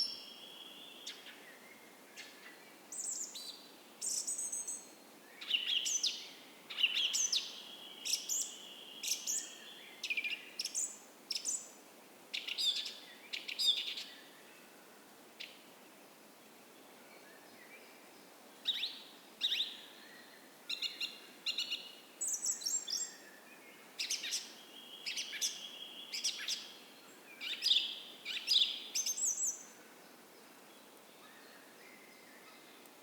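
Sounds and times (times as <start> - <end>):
songbirds singing: 0.0 - 14.6, 18.6 - 33.0
faint creek hiss: 0.0 - 33.0.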